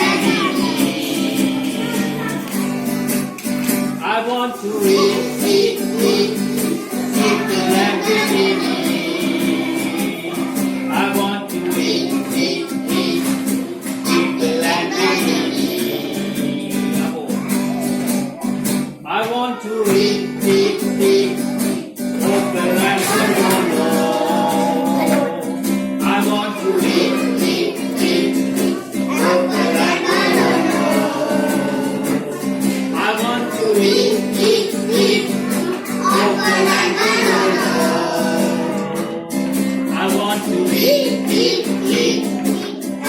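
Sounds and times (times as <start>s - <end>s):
person singing: 0.0s - 3.3s, 4.0s - 17.9s, 19.1s - 43.0s
instrumental backing: 0.0s - 4.1s, 4.8s - 19.1s, 19.9s - 43.0s.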